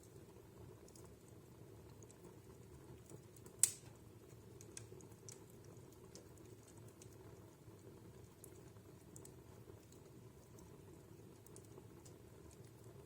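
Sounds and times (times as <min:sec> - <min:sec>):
fire crackling: 0:00.0 - 0:13.0
fire rumbling: 0:00.0 - 0:13.0.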